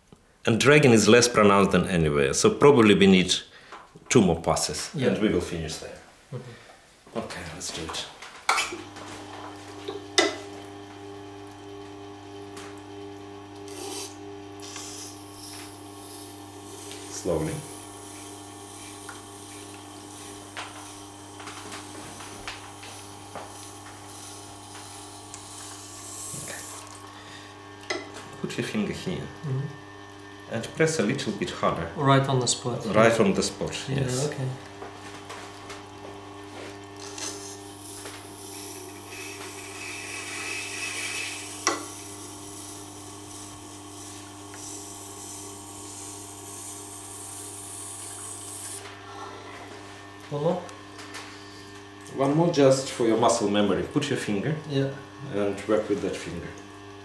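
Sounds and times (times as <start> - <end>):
grinder motor humming: 8.6 - 57.0.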